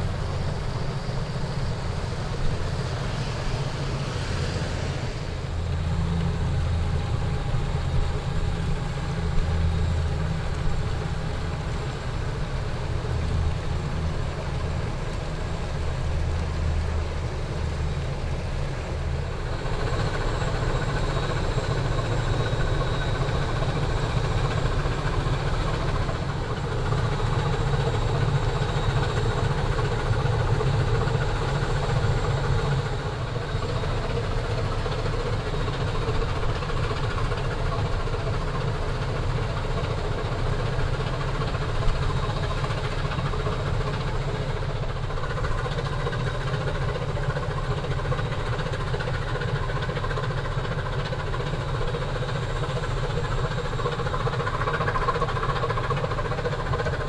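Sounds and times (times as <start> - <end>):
ship diesel engine rumble: 0.0 - 57.0.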